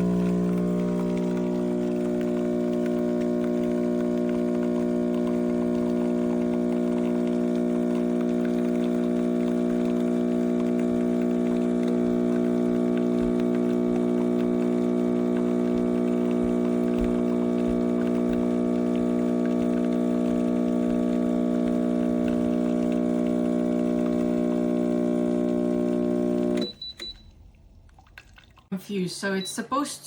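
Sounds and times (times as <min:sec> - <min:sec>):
espresso machine pump humming: 0:00.0 - 0:26.7
water trickling: 0:00.0 - 0:28.7.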